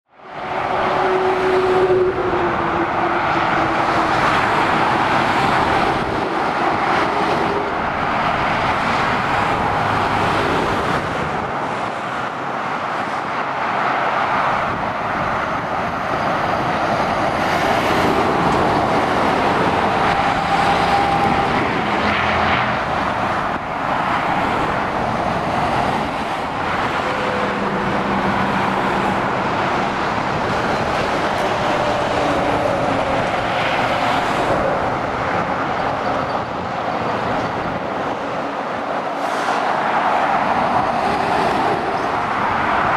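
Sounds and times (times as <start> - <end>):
diesel engines: 0.1 - 42.9.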